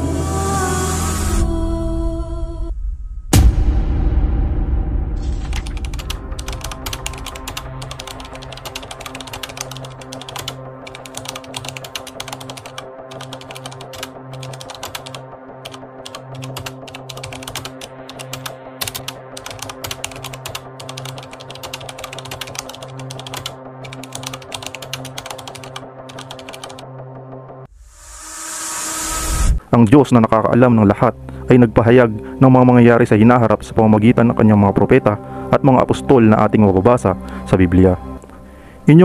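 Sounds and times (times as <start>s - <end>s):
background music: 0.0s - 39.0s.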